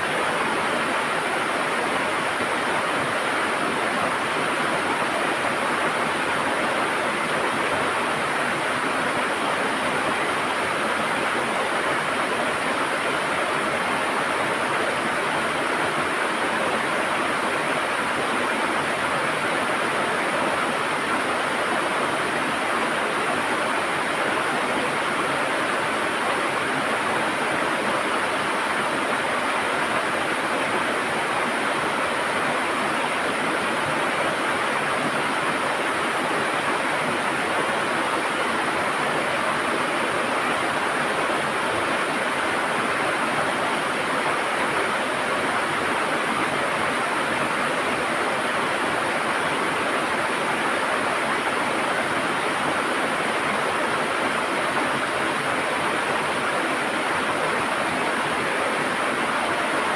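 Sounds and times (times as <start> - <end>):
river water gurgling: 0.0 - 59.9.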